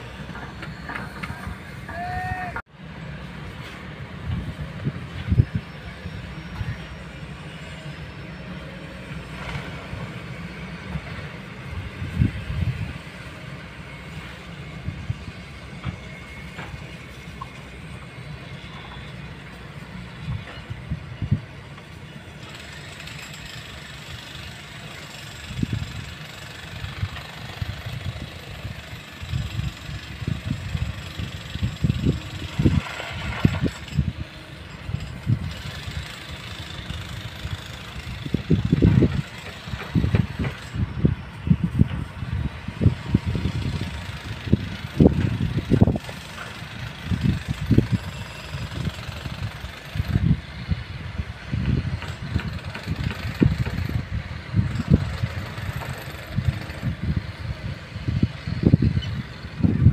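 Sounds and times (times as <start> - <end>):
distant excavator diesel engine: 0.0 - 59.9.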